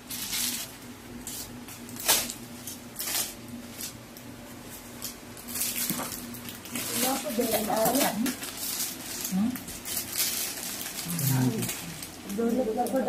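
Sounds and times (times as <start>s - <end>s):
plastic packets rustling: 0.0s - 13.0s.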